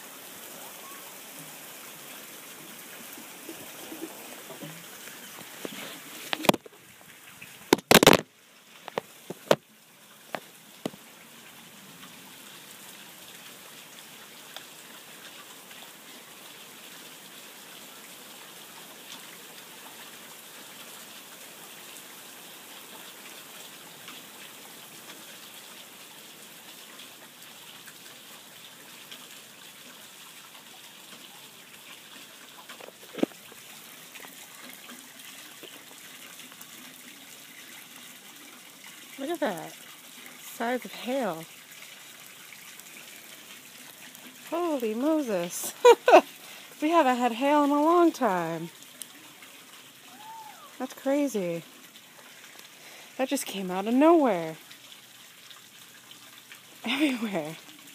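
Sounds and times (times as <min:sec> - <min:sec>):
hail and rain falling: 0:00.0 - 0:57.9.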